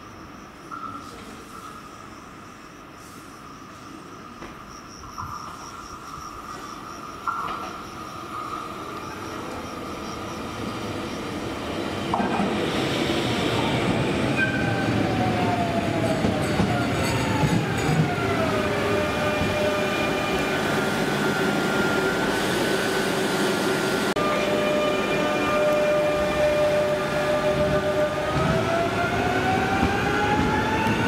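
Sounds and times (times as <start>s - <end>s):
train steady hum: 0.0s - 31.0s.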